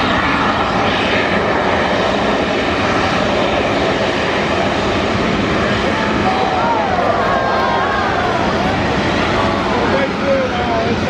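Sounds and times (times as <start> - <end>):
aircraft engine rush: 0.0 - 11.0.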